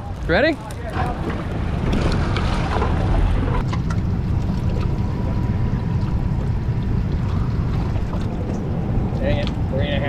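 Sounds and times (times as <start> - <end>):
boat outboard engines idling: 0.0 - 10.0
wind buffeting microphone: 0.0 - 10.0.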